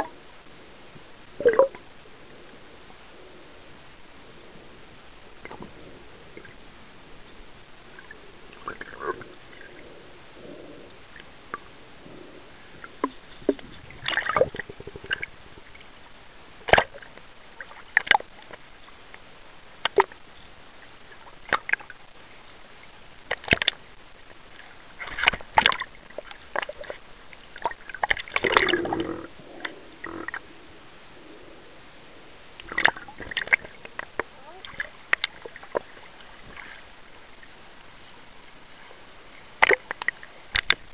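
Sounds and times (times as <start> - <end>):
low steady hiss: 0.0 - 40.9
water splashing and gurgling: 1.2 - 2.6, 4.8 - 30.5, 32.5 - 40.9.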